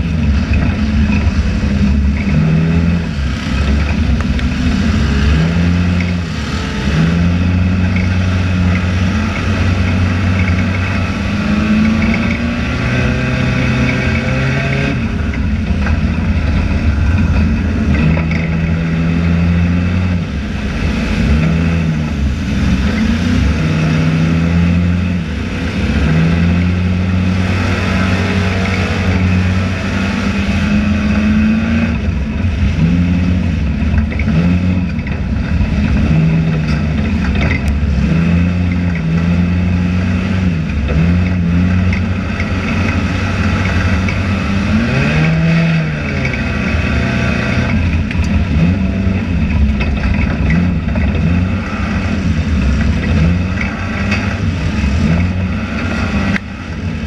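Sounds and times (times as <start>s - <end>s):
race car engine revving: 0.0s - 57.0s
rattle and road noise: 0.0s - 57.0s.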